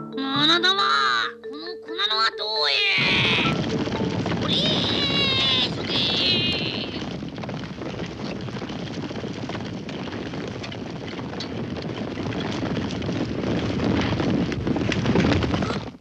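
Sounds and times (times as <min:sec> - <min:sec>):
horses galloping: 0:02.8 - 0:16.0.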